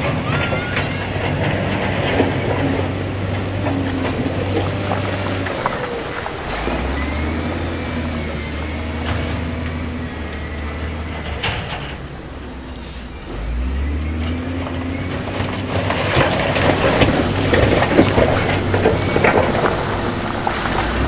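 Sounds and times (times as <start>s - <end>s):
heavy diesel engine running: 0.0s - 21.0s
stones tumbling and grinding: 0.0s - 21.0s.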